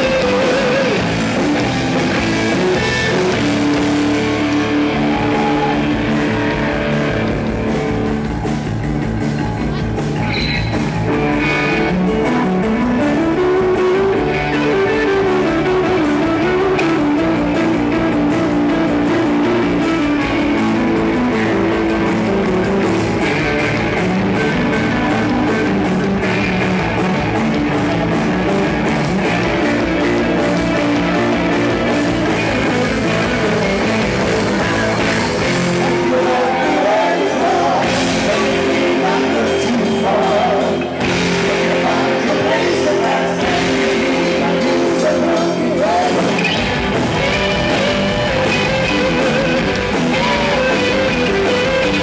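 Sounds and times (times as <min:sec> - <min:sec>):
drums: 0:00.0 - 0:52.0
electric guitar: 0:00.0 - 0:52.0.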